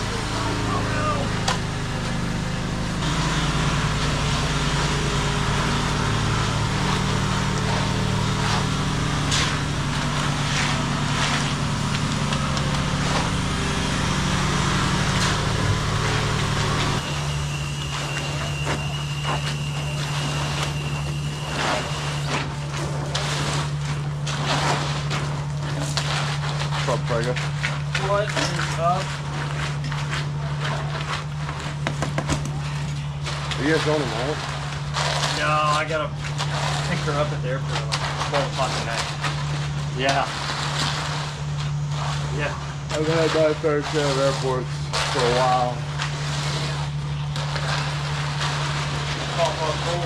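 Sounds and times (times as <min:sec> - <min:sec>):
engine running steadily: 0:00.0 - 0:50.0
thin high whine: 0:00.0 - 0:50.0.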